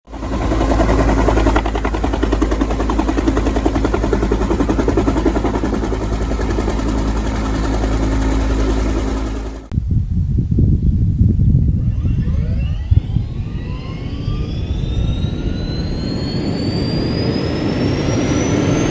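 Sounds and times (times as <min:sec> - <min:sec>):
helicopter engine and rotor: 0:00.1 - 0:09.7, 0:11.4 - 0:18.9
rough rotor sound: 0:00.1 - 0:09.7, 0:11.0 - 0:18.9.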